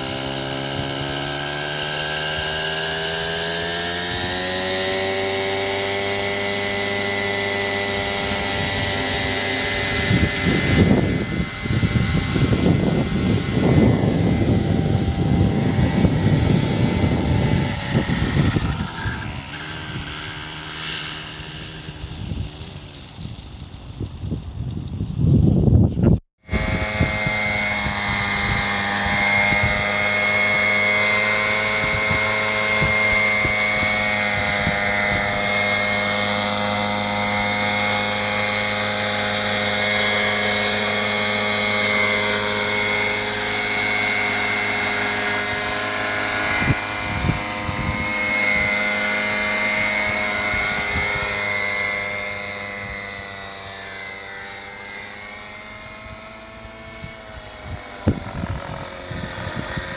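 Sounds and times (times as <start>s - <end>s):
model helicopter engine drone: 0.0s - 59.9s.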